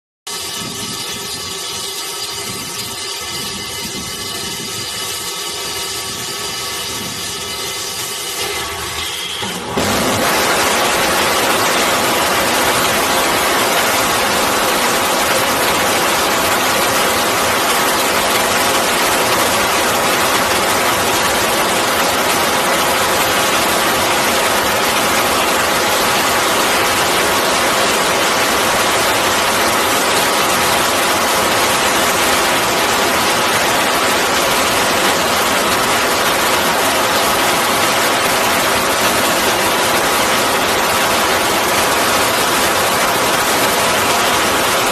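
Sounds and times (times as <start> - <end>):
rocket engine exhaust roar: 0.3 - 44.9.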